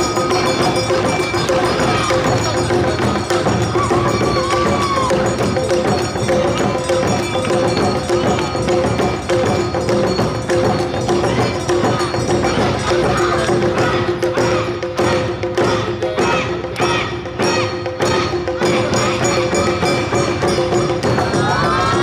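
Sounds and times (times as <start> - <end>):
drums and bells beat: 0.0 - 22.0.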